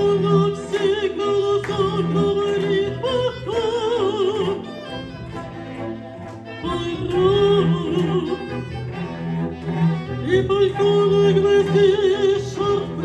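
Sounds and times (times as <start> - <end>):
bowed strings: 0.0 - 13.0
cello playing sustained notes: 0.0 - 13.0.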